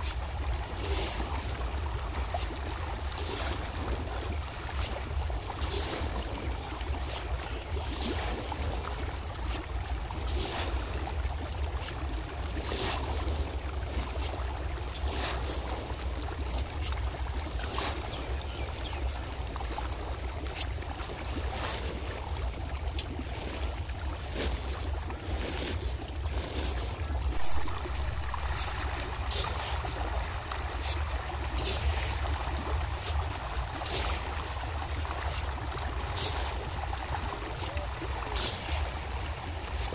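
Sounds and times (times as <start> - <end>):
fish thrashing and splashing water: 0.0 - 39.9.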